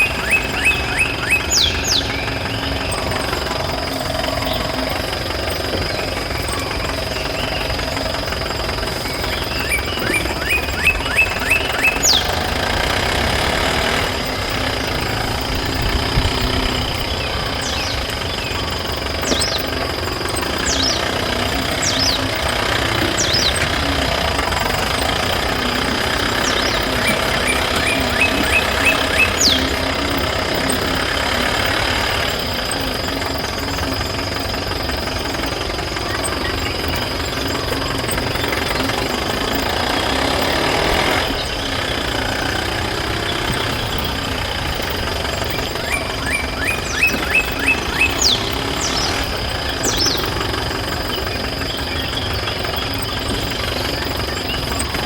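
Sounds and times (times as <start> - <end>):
small engine knocking: 0.0 - 55.0.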